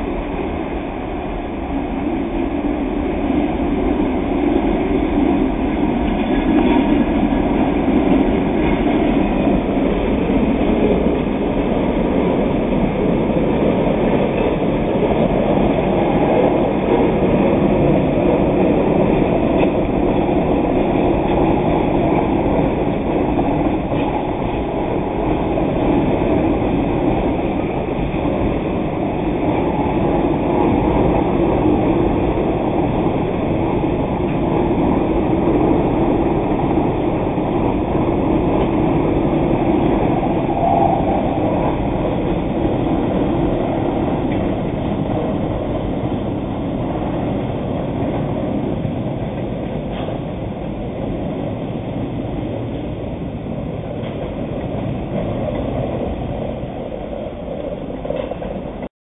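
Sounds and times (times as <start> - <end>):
train cars rumbling on rails: 0.0 - 58.9.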